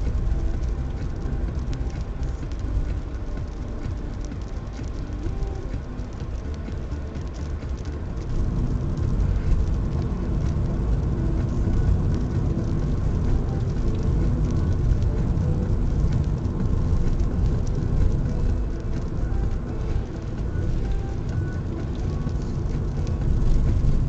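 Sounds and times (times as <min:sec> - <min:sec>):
car driving heard from inside: 0:00.0 - 0:24.0.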